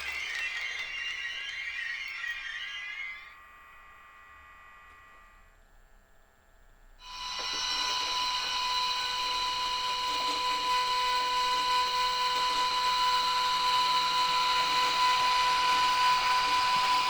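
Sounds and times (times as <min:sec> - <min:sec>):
model locomotive electric whine: 0:00.0 - 0:17.0.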